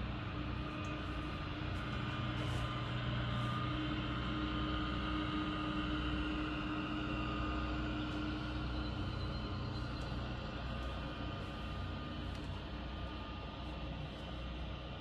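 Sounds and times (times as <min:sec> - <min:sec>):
mowing tractor engines droning: 0:00.0 - 0:15.0.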